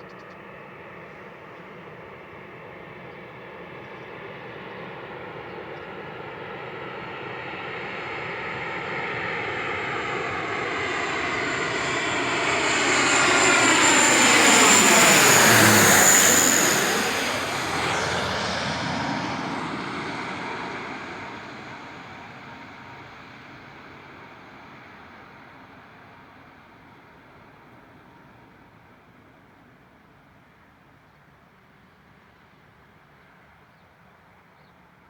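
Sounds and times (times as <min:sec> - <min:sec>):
turboprop aircraft passing by: 0:00.0 - 0:34.8.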